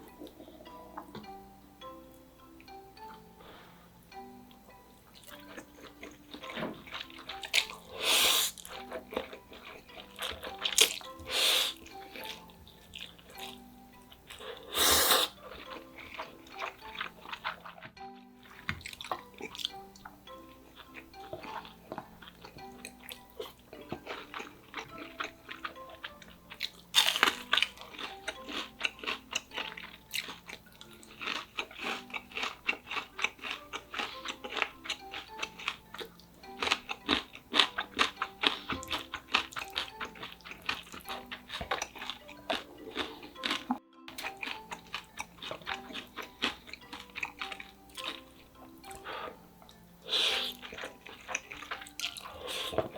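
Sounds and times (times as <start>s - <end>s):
soft background music with mallet notes: 0.0s - 52.9s
crunching and chewing fried food: 4.6s - 52.9s.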